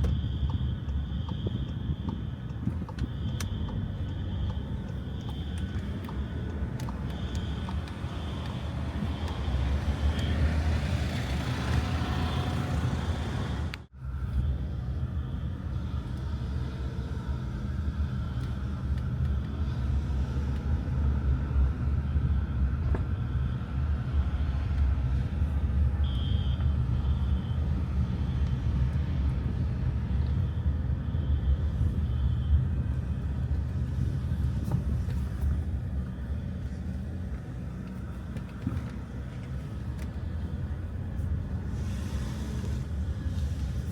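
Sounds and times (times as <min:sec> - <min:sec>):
road vehicle rumble: 0:00.0 - 0:43.9.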